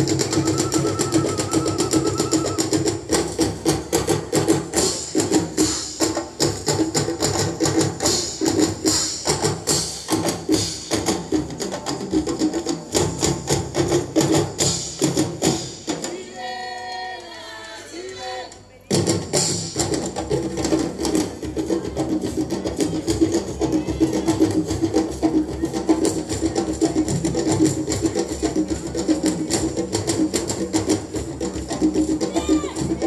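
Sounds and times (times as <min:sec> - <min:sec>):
drum kit and hand drums playing: 0:00.0 - 0:16.4, 0:18.9 - 0:33.0.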